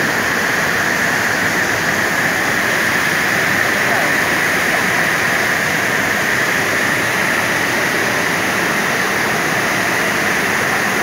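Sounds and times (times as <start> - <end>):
floodwater rushing through river: 0.0 - 11.0.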